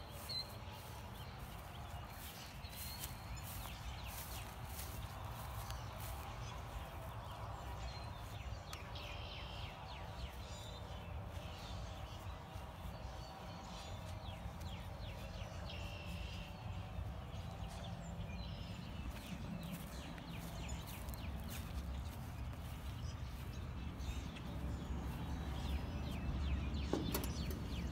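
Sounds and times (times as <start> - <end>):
footsteps crunching dry grass: 0.0 - 26.6
songbirds calling: 0.0 - 27.9.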